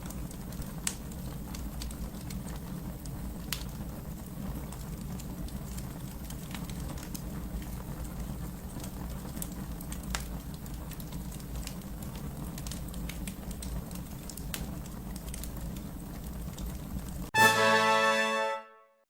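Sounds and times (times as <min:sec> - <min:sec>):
fire crackling and popping: 0:00.0 - 0:17.3
fire flames rumbling: 0:00.0 - 0:17.3.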